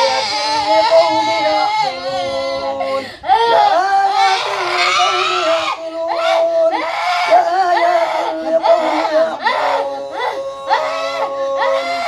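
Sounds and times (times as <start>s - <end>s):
person wailing: 0.0s - 12.0s.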